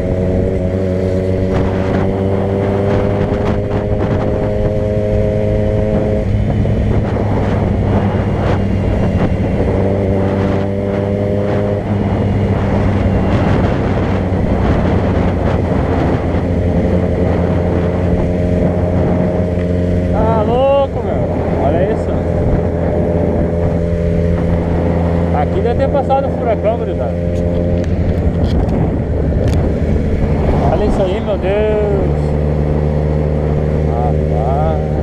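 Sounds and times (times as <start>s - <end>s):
road noise: 0.0s - 35.0s
vehicle engine running: 0.0s - 35.0s.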